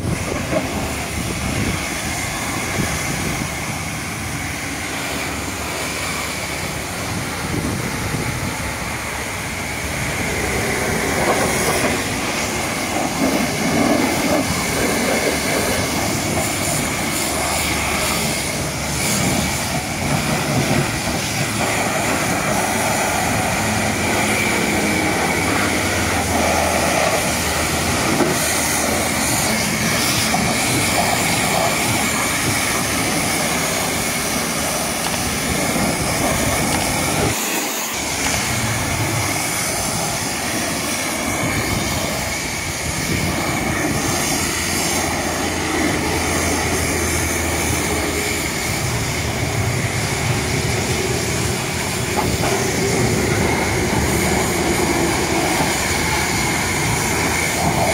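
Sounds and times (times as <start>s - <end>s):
pressure washer spraying metal: 0.0s - 57.9s.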